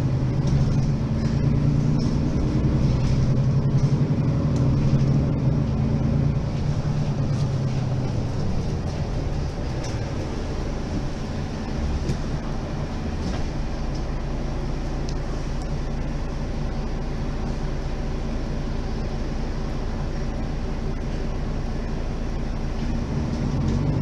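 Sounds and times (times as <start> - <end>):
bus diesel engine idling: 0.0 - 24.0.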